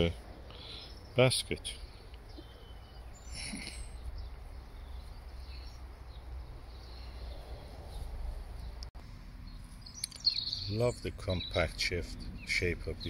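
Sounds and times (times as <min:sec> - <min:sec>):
distant birds chirping: 0:00.0 - 0:13.0.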